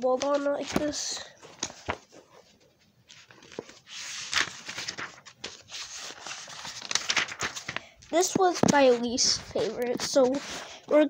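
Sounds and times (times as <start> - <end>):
book pages flipping: 0.0 - 11.0.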